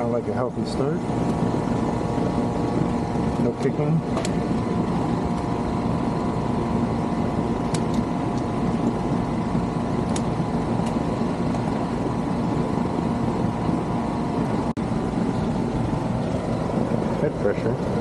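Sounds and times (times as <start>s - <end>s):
compressor humming: 0.0s - 18.0s
condenser fan rushing: 0.0s - 18.0s.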